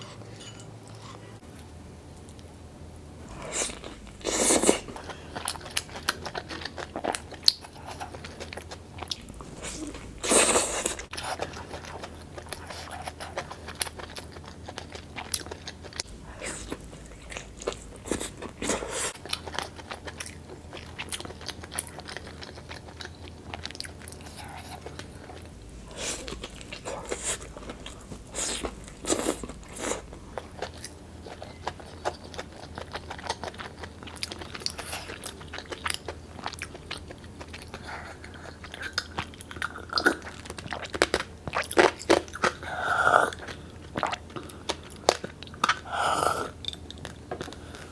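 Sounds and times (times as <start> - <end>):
crunchy chewing of food: 3.2 - 47.9.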